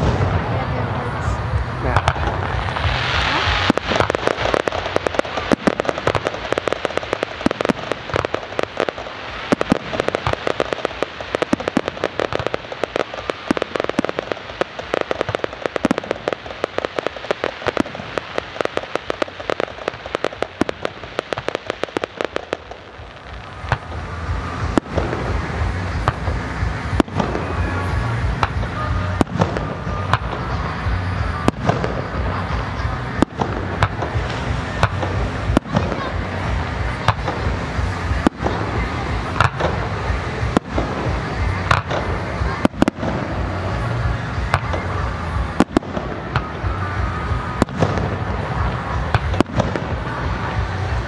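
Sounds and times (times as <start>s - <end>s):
fireworks popping and banging: 0.0s - 51.0s.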